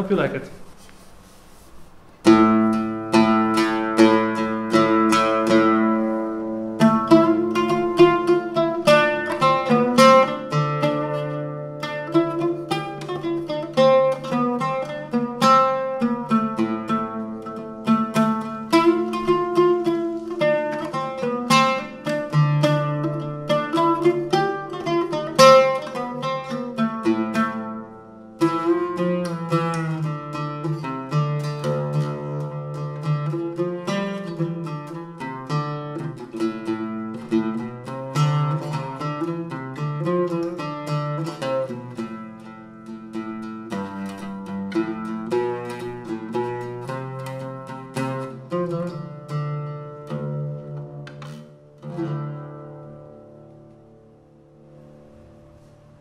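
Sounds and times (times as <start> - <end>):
oud plucked notes: 2.1 - 56.0.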